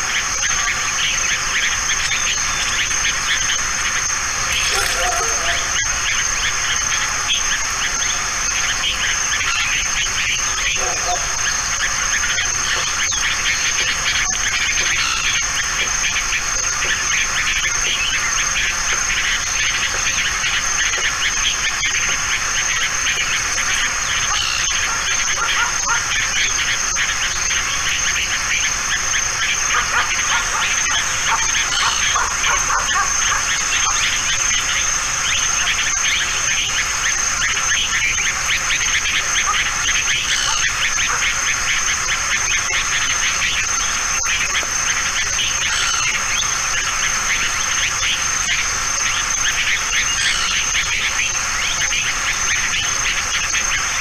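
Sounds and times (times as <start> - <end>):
constant high-pitched whine: 0.0 - 54.0
dense outdoor background noise: 0.0 - 54.0.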